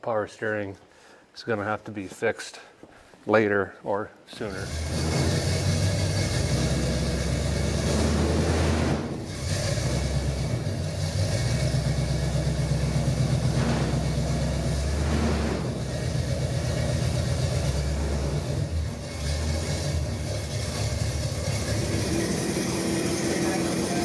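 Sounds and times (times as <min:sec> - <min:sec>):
car engine idling: 0:04.5 - 0:24.0.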